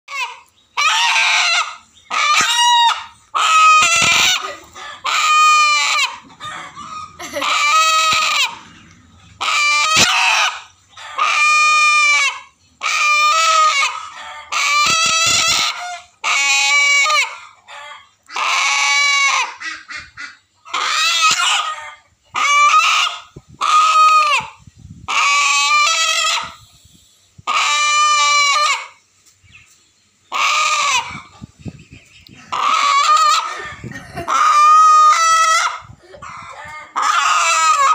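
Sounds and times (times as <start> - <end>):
rooster squawking: 0.1 - 26.7, 27.4 - 29.0, 30.3 - 31.3, 32.4 - 37.9.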